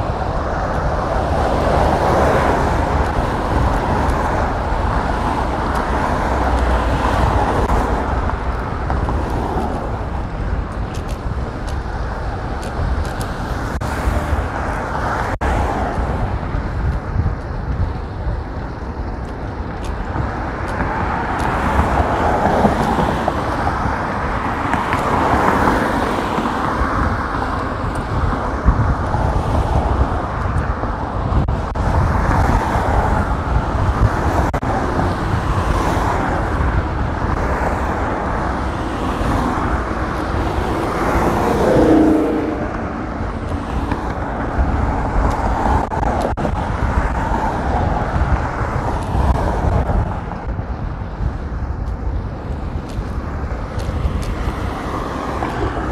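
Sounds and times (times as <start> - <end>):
cars going by: 0.0 - 55.9
wind rumble on microphone: 0.0 - 55.9.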